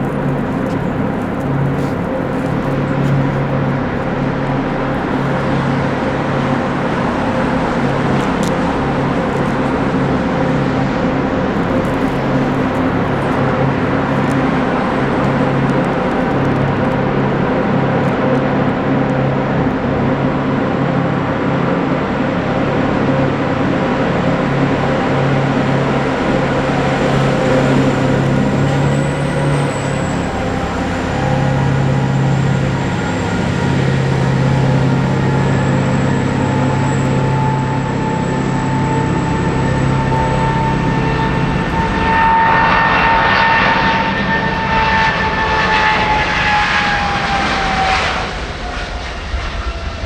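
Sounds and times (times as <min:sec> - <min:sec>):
jet engines whining: 0:00.0 - 0:50.0
rough rush of engine noise: 0:00.0 - 0:50.0.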